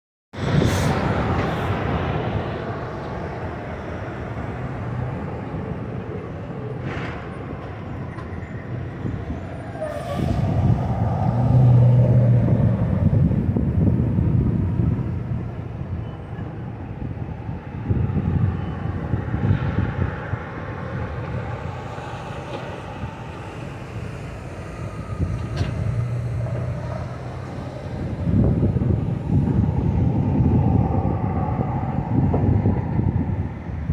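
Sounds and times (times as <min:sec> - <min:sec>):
semi trucks passing: 0:00.4 - 0:33.9.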